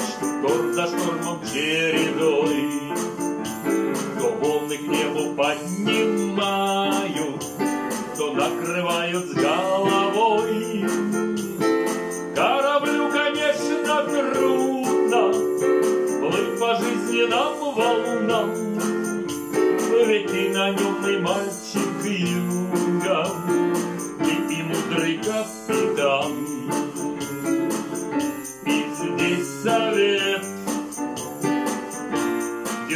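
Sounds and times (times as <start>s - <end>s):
digital keyboard music: 0.0s - 32.9s.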